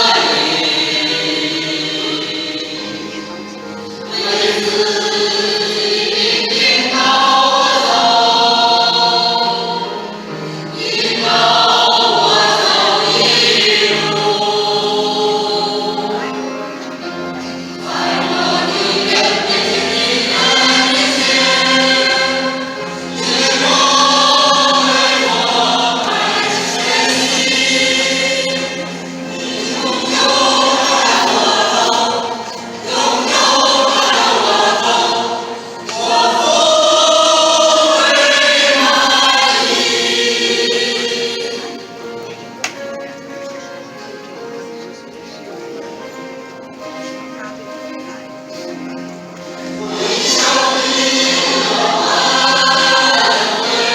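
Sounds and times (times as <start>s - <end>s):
choir singing a hymn: 0.0s - 53.9s.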